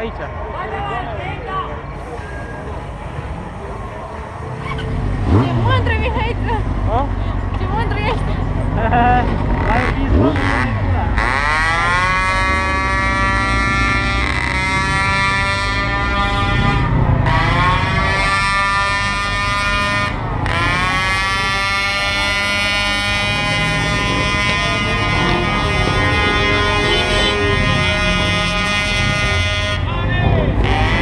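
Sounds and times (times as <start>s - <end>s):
motorcycle engine revving: 2.2s - 31.0s.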